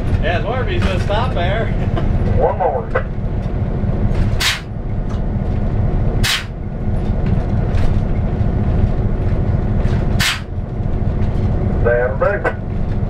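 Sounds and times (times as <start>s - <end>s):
locomotive engine rumble: 0.0s - 13.0s.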